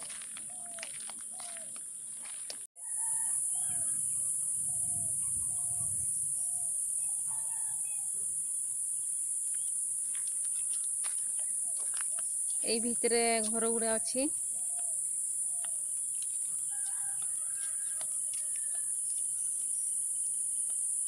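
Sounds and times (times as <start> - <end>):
insect drone: 2.8 - 21.0.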